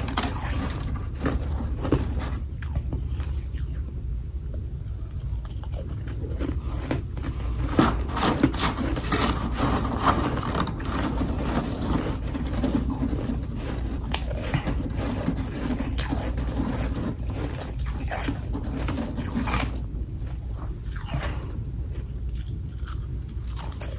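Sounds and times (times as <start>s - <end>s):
frost crunching and crackling: 0.0s - 23.9s
steady low hum: 0.0s - 23.9s.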